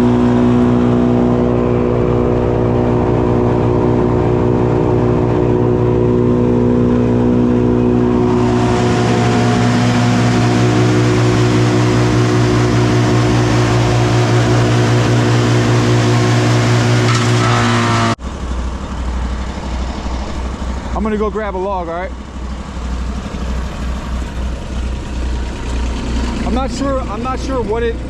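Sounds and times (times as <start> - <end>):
loud rushing noise: 0.0 - 24.2
gasoline engine running: 0.0 - 28.0.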